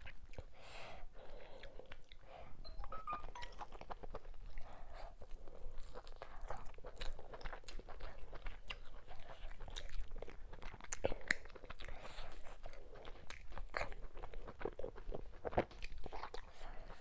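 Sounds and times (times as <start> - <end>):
chewing with wet mouth clicks: 0.0 - 0.5, 1.2 - 17.0.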